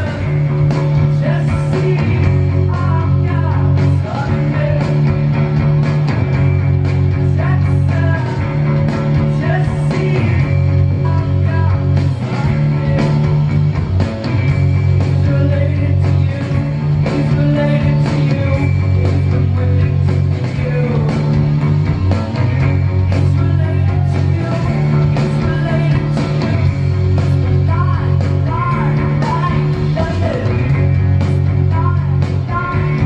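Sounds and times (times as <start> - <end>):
live band music: 0.0 - 33.0.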